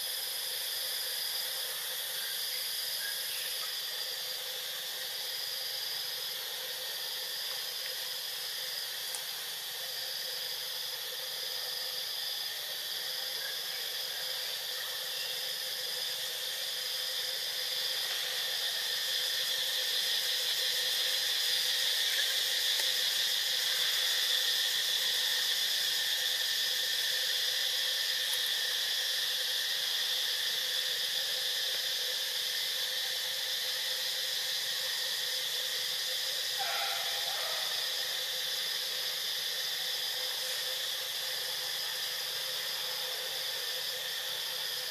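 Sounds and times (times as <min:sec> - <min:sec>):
forest insects droning: 0:00.0 - 0:44.9.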